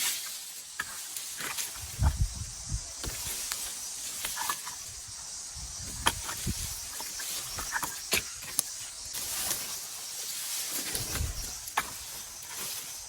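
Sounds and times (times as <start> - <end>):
broom sweeping ground: 0.0 - 13.0.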